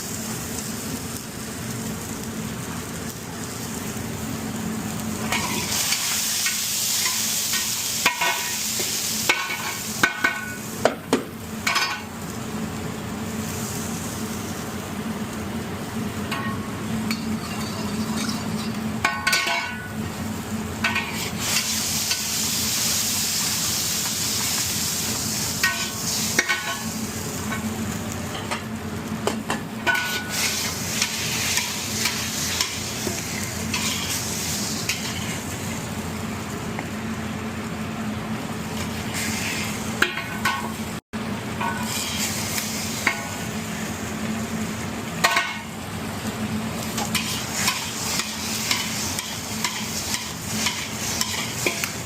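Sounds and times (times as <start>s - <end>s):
food sizzling in a pan: 0.0s - 52.0s.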